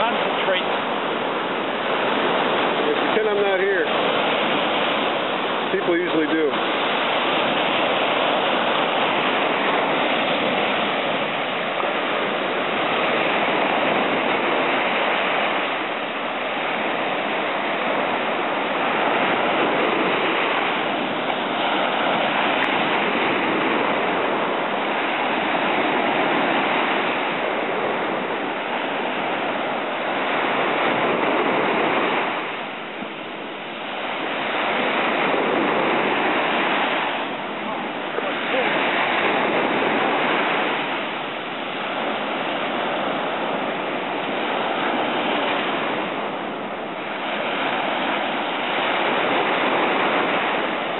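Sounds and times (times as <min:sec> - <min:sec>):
ocean surf breaking on beach: 0:00.0 - 0:50.9.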